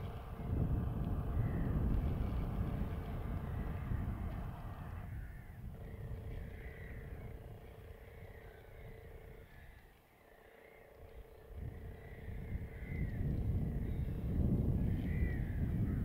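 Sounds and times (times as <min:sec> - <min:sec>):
wind buffeting microphone: 0:00.0 - 0:09.8, 0:11.0 - 0:16.0
faint bird calls: 0:01.2 - 0:16.0.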